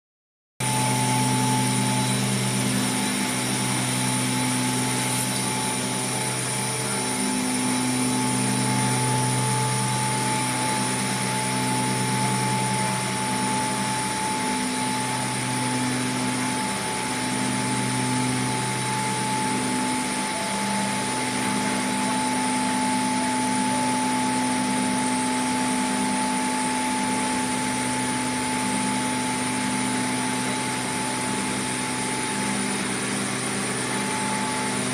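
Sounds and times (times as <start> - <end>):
machine roar with whining tones: 0.6 - 34.9.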